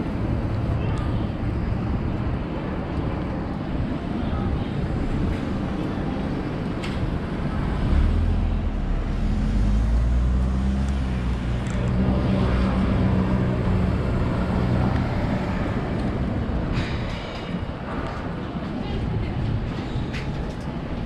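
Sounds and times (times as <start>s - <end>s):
traffic noise: 0.0s - 21.0s
vehicle engine humming: 0.0s - 21.0s.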